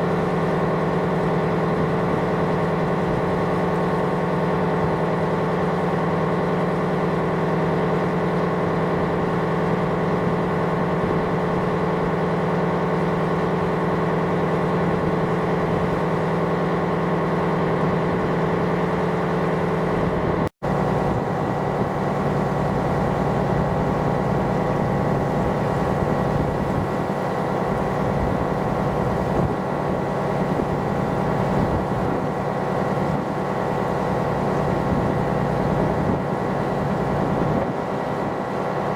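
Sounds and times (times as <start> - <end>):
engine machinery drone: 0.0 - 38.9.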